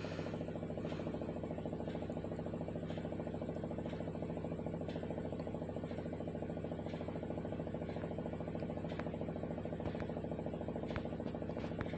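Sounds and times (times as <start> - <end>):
machine hum with rapid pulse: 0.0 - 11.9.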